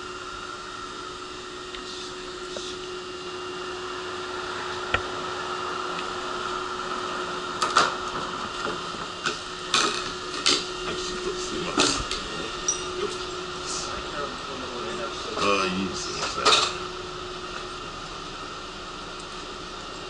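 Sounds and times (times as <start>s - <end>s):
electric train humming: 0.0s - 20.0s.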